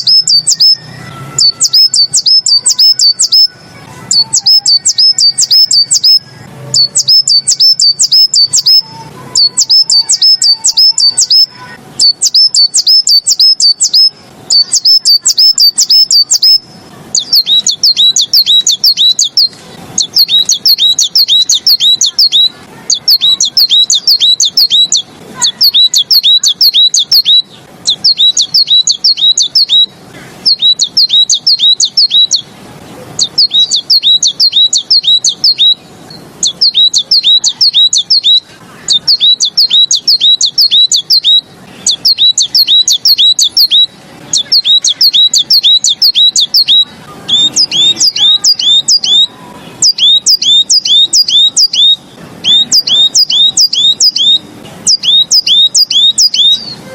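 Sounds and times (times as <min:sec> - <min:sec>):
songbird sharp chirps: 0:00.0 - 0:32.5, 0:33.2 - 0:56.9.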